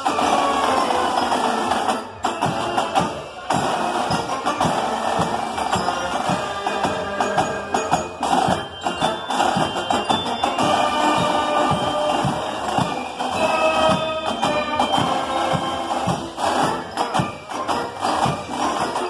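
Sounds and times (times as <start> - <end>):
brass band playing a march: 0.0 - 19.0
marching snare drum strokes: 0.0 - 19.0.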